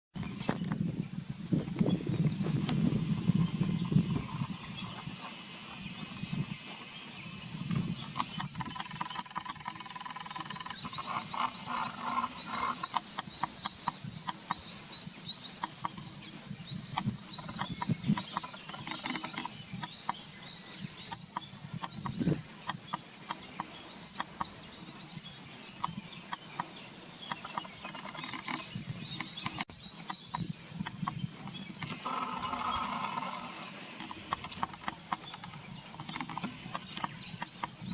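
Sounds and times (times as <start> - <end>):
birds twittering chirps: 0.1 - 37.9.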